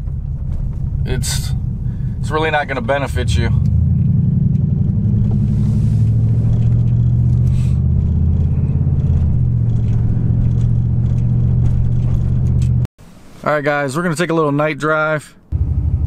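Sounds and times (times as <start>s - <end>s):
car engine drone: 0.0s - 12.9s, 15.5s - 16.0s
road noise inside car: 0.0s - 13.4s, 15.5s - 16.0s.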